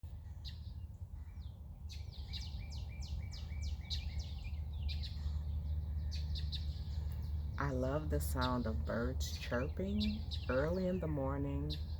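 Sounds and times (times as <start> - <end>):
songbird singing: 0.0 - 11.9
steady low rumble: 0.0 - 11.9
bird chirps: 0.1 - 11.9.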